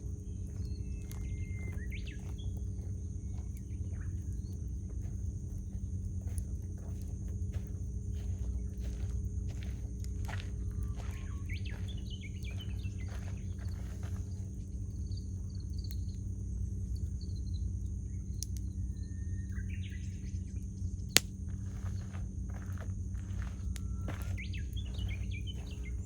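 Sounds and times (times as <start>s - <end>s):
campfire crackling: 0.0s - 26.0s
small birds chirping: 0.0s - 26.0s.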